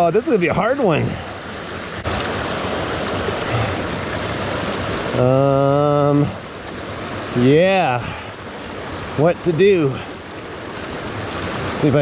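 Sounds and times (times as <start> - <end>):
creek rushing: 0.0 - 12.0.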